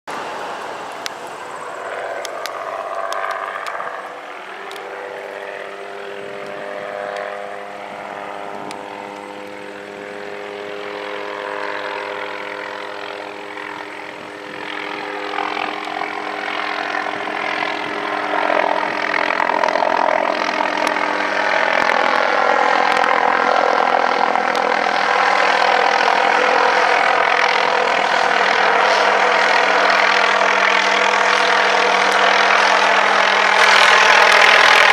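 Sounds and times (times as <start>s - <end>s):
helicopter turbine and rotors: 0.1s - 34.9s.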